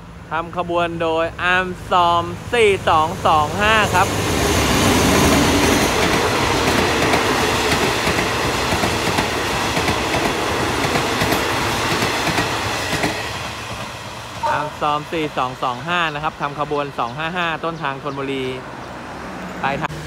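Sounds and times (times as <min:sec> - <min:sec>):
diesel locomotive engine running: 0:00.0 - 0:19.2.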